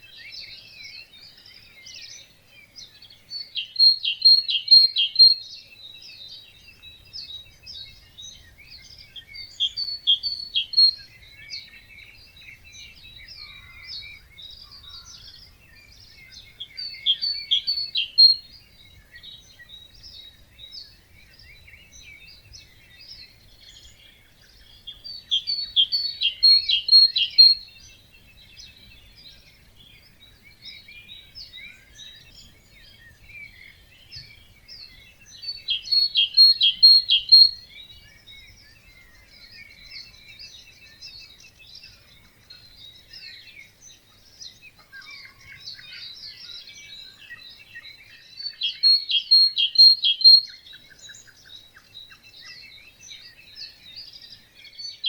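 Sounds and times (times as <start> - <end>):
bird song of quick even notes: 0.0 - 55.0
songbird chorus: 0.0 - 55.0.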